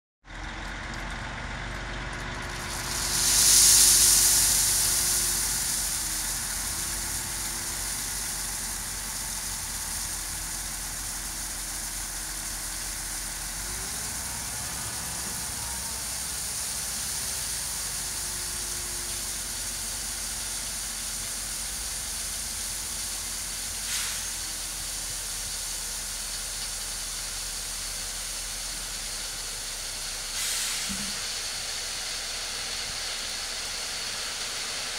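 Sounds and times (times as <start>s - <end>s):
hydraulic hiss: 2.6s - 34.9s.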